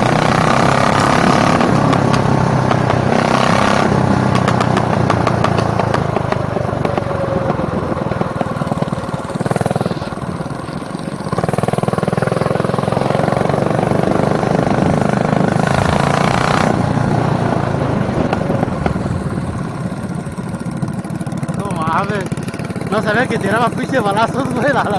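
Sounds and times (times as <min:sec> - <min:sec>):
mini bike engine running: 0:00.0 - 0:24.9.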